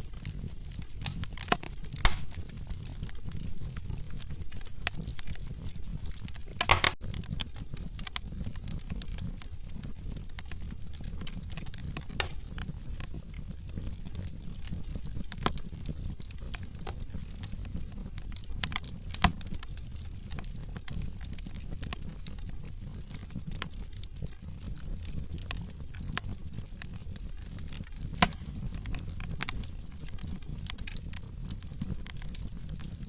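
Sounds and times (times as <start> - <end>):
burning logs crackling and popping: 0.0 - 33.0
low rumble of flames: 0.0 - 33.0.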